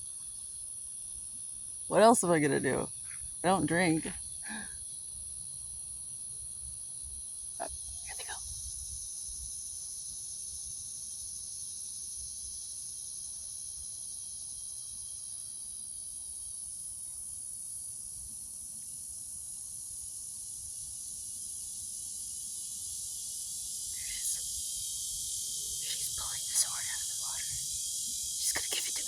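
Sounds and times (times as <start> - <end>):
insect chorus buzzing drone: 0.0 - 29.0.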